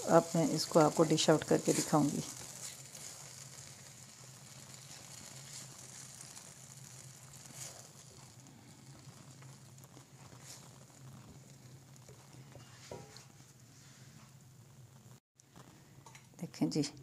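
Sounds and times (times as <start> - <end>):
sizzling and crackling in a pan: 0.0 - 16.8.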